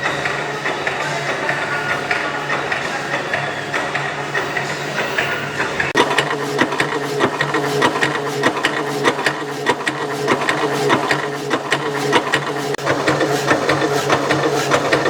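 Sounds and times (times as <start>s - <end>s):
metalworking machine humming: 0.0s - 15.0s
rapid irregular clicking and rattling: 0.0s - 15.0s.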